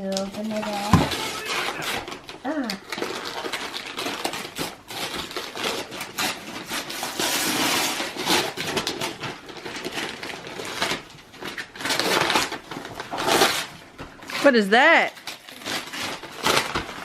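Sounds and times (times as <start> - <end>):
wrapping paper tearing and crumpling: 0.0 - 17.0.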